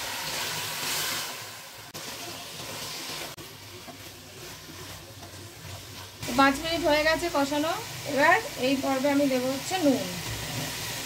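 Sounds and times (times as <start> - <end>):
meat sizzling in hot oil: 0.0 - 11.0
wooden spatula stirring in pan: 0.0 - 11.0.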